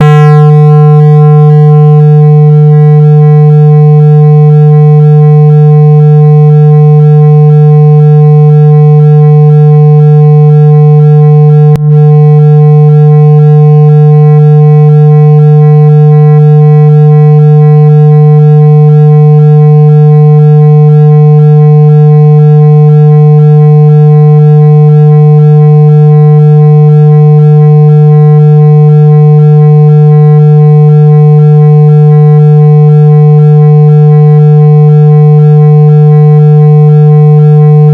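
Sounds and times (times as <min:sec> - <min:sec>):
loud buzzing tone: 0:00.0 - 0:37.9.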